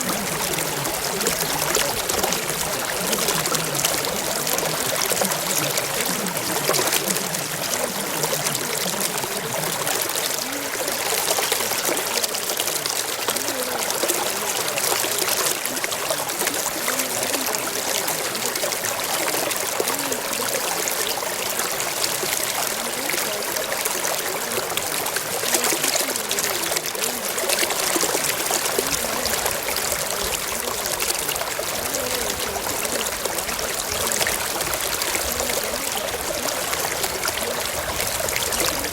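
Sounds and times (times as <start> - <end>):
trickling stream: 0.0 - 38.9.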